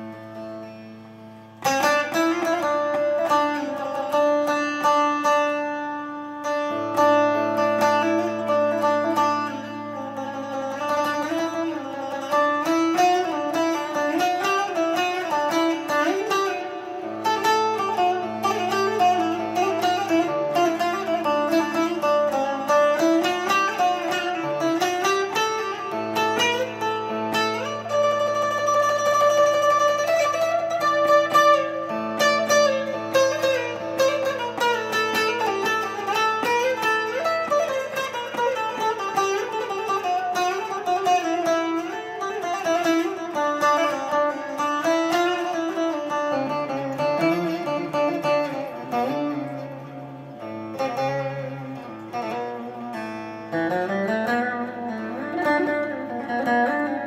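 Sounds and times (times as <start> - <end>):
plucked lute improvisation: 0.0 - 57.0.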